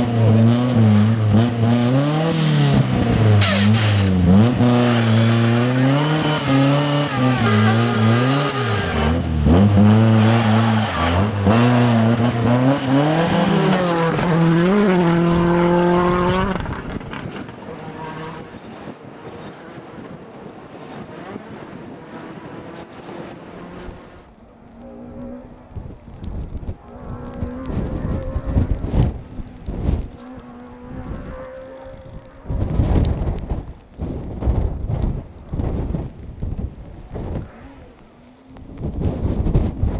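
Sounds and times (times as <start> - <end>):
rally car engine revving: 0.0 - 33.6.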